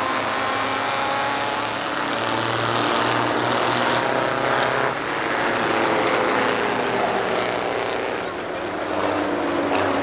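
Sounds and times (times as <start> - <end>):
racing truck engines passing: 0.0 - 10.0.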